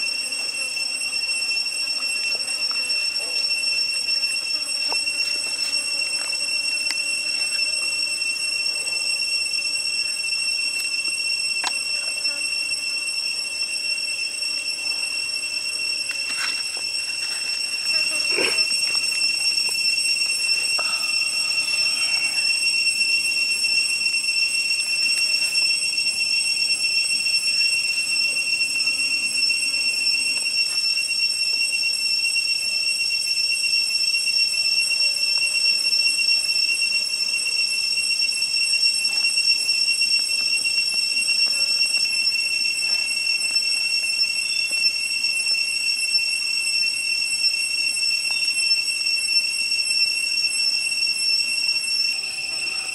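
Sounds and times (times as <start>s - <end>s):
cicadas whining: 0.0s - 52.9s.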